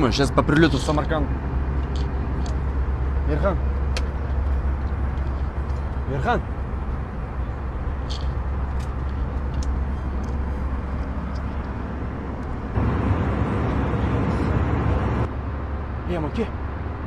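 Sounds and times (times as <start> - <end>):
airliner cabin rumble: 0.0 - 15.3.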